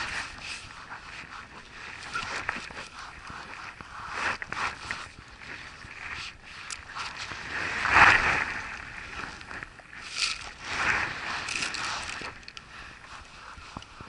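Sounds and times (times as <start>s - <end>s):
jacket and fishing rod rustling: 0.0s - 14.0s.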